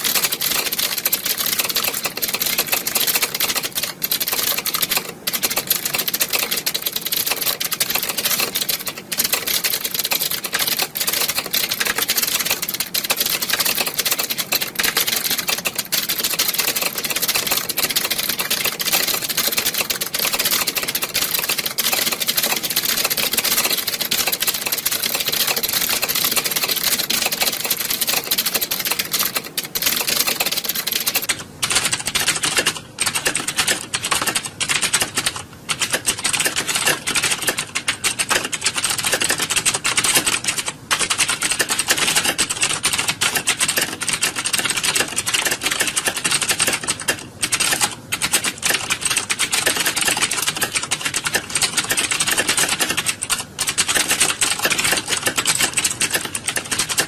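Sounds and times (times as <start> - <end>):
keyboards typing clatter: 0.0 - 57.0.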